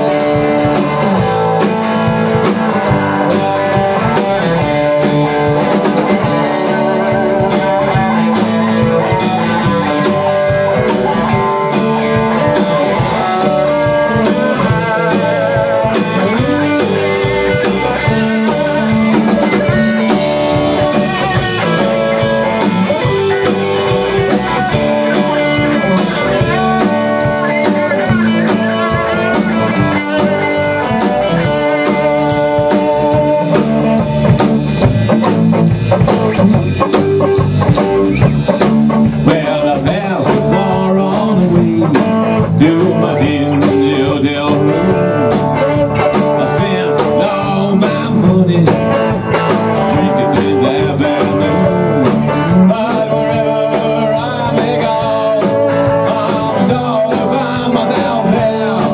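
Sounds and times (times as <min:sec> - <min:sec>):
live blues-rock band playing: 0:00.0 - 0:58.9.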